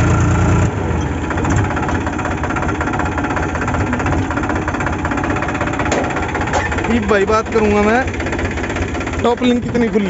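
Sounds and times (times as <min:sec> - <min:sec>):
tractor diesel engine clattering: 0:00.0 - 0:10.0.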